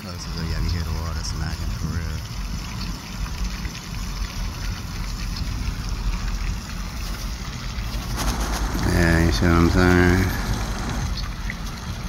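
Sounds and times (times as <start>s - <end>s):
water jets splashing onto pond: 0.0s - 12.0s.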